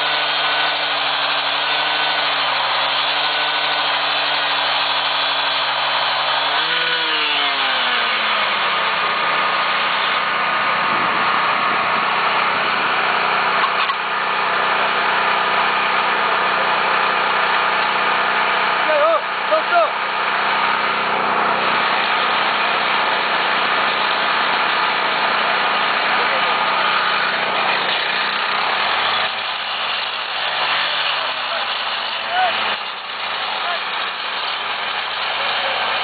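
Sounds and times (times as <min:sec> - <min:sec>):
engine-driven track machinery: 0:00.0 - 0:36.0
harsh mechanical noise: 0:00.0 - 0:36.0.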